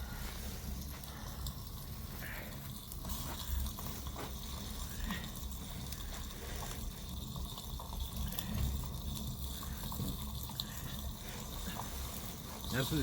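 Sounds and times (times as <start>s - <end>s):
liquid trickling: 0.0s - 13.0s.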